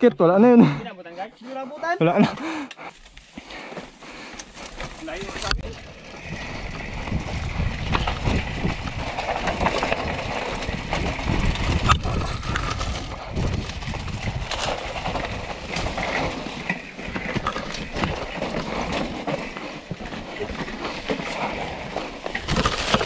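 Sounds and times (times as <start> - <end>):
bike rattling and knocking: 2.1 - 23.0
bike tyres rolling over dirt: 2.1 - 23.0.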